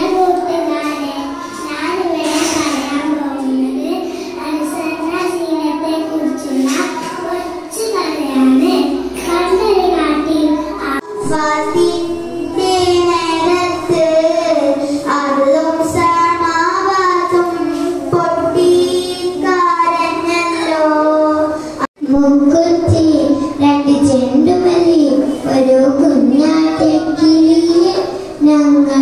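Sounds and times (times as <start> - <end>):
child singing: 0.0 - 29.0
girl singing into a microphone: 0.0 - 29.0.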